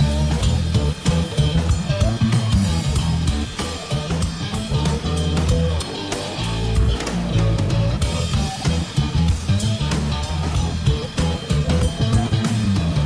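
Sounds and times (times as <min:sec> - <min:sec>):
band music with drums and bass: 0:00.0 - 0:13.0.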